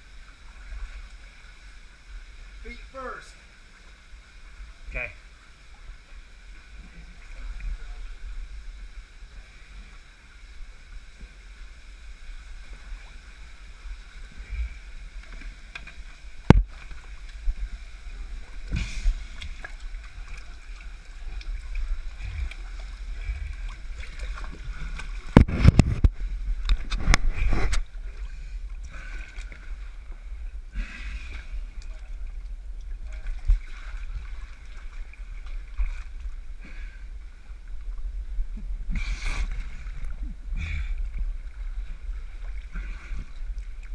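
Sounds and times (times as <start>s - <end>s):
steady low rumble: 0.0s - 43.9s
water splashing and sloshing: 0.0s - 43.9s.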